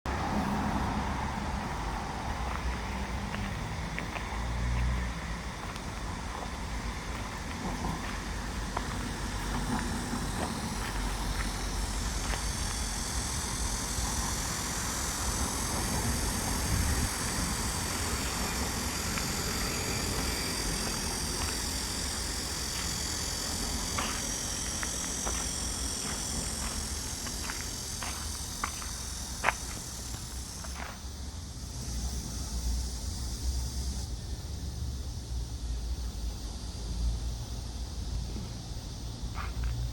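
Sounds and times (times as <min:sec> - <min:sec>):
distant road traffic rumble: 0:00.1 - 0:39.9
insects chirring: 0:00.1 - 0:39.9.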